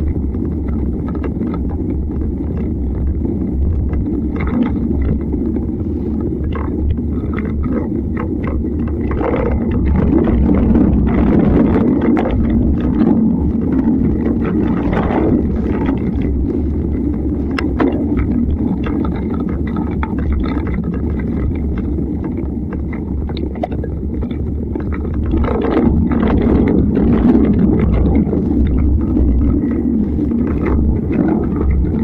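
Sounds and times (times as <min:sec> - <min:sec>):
bike clicks and rattles: 0:00.0 - 0:32.0
bike tyres rumbling on dirt: 0:00.0 - 0:32.0
wind on microphone: 0:00.0 - 0:32.0.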